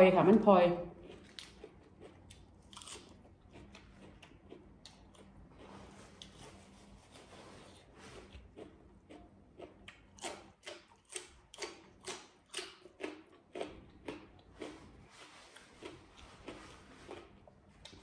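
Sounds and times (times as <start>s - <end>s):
person chewing crunchy food: 0.9s - 18.0s.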